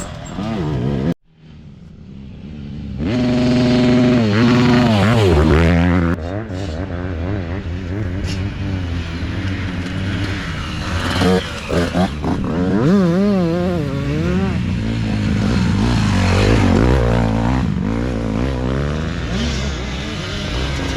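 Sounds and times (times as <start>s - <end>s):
dirt bike engines revving: 0.0s - 20.9s.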